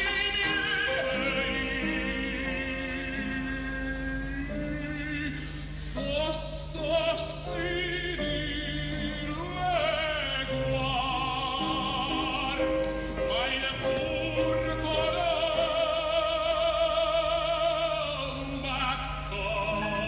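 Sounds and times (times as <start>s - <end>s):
operatic tenor singing: 0.0s - 20.0s
piano accompaniment: 0.0s - 20.0s.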